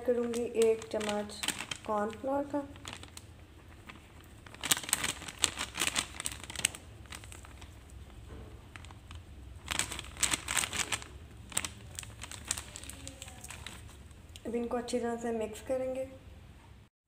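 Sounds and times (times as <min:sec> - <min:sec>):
crinkling rustling handling noise: 0:00.0 - 0:14.7.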